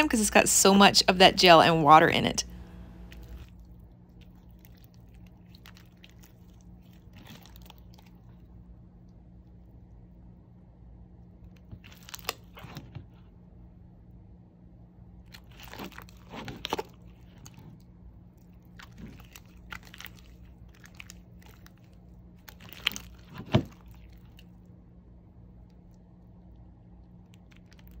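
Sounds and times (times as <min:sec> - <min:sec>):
faint steady hum: 0:00.0 - 0:28.0
slime squelching: 0:00.6 - 0:10.0, 0:11.5 - 0:13.1, 0:15.3 - 0:24.7, 0:25.7 - 0:28.0.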